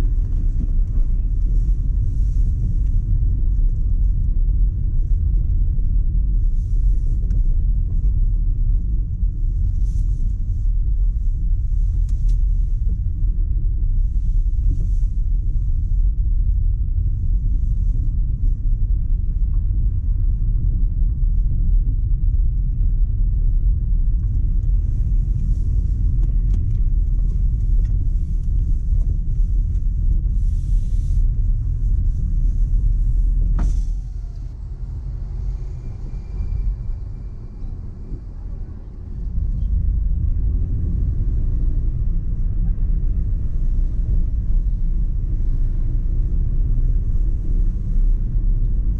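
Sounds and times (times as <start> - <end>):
car driving road noise: 0.0 - 48.9.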